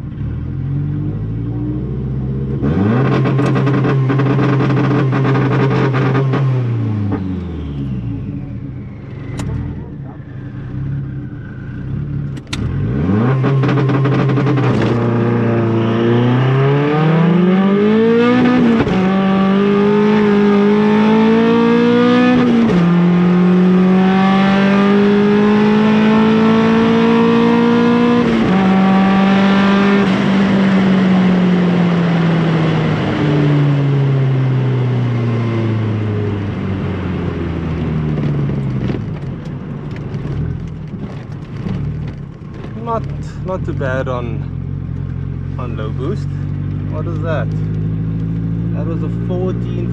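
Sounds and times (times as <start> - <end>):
car engine accelerating through gears: 0.0 - 49.9.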